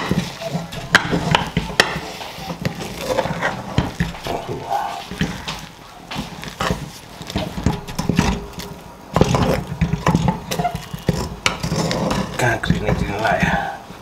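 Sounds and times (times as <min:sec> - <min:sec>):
wooden stick knocking metal pot: 0:00.0 - 0:05.6, 0:06.6 - 0:13.6.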